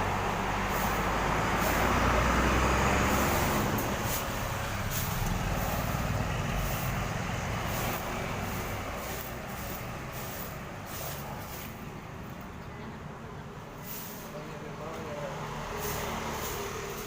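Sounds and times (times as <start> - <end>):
coach diesel engine humming: 0.0 - 14.0.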